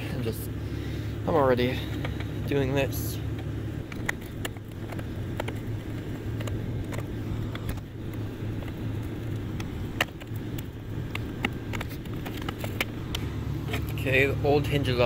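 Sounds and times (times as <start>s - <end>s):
car engine idling hum: 0.0s - 15.0s.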